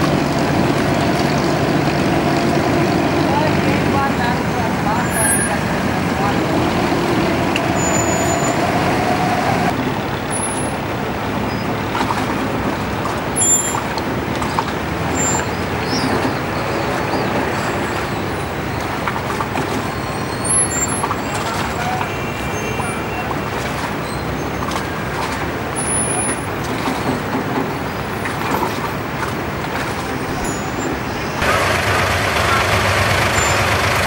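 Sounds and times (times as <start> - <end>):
boat engine rumbling: 0.0 - 34.0.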